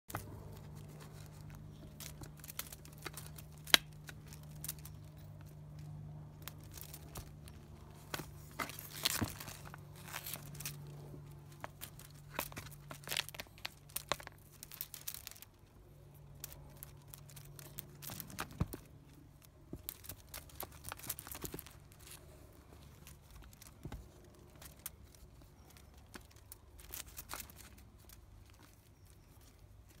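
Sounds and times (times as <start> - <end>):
tinsel toy crinkling and rustling: 0.1 - 30.0.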